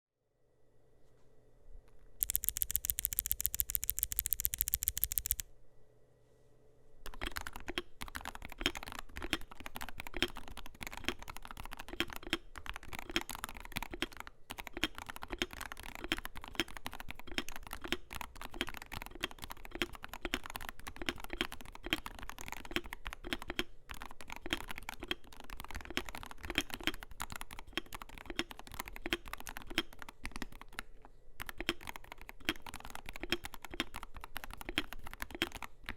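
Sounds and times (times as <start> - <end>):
keyboard typing clicks: 2.2 - 5.5, 7.1 - 35.9.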